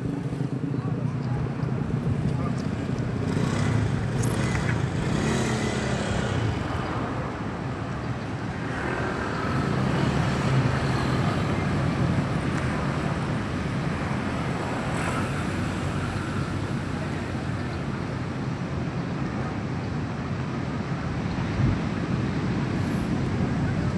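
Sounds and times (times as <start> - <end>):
road traffic drone: 0.0 - 23.9.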